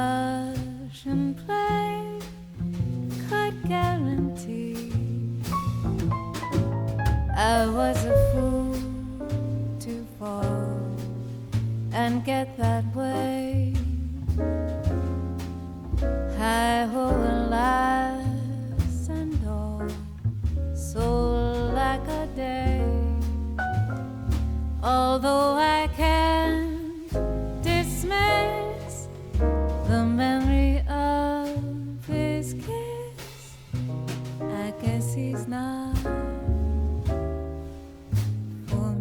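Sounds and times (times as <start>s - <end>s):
double bass: 0.0s - 39.0s
jazz ballad: 0.0s - 39.0s
piano: 0.0s - 39.0s.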